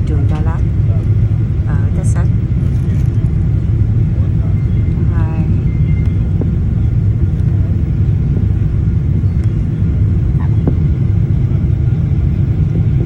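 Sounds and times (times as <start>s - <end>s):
airliner low rumble: 0.0s - 13.0s.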